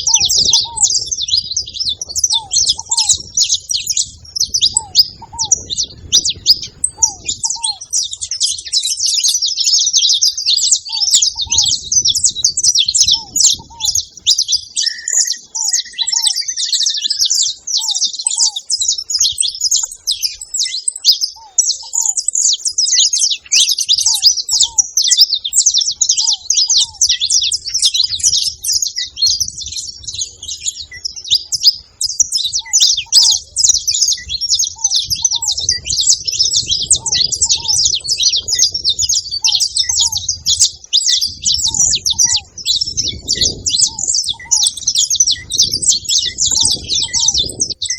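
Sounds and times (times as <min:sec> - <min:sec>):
finches chirping: 0:00.0 - 0:47.9
longer bird call: 0:00.0 - 0:47.9.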